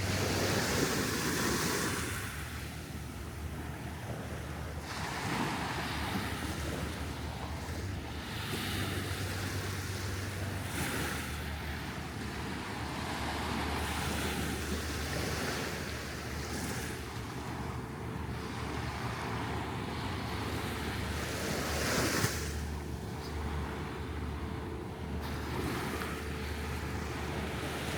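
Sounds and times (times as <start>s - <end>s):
wind rumbling on microphone: 0.0s - 27.9s.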